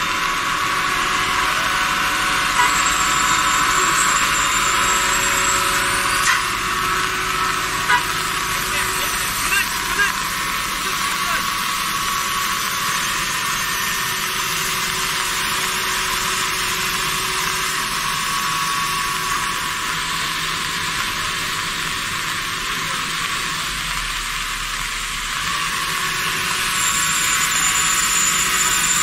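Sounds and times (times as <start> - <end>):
heavy rain hiss: 0.0 - 27.8.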